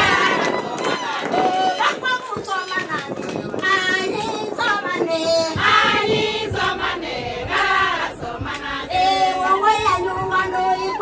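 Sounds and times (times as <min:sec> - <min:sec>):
women singing in chorus: 0:00.0 - 0:02.2, 0:03.6 - 0:11.0.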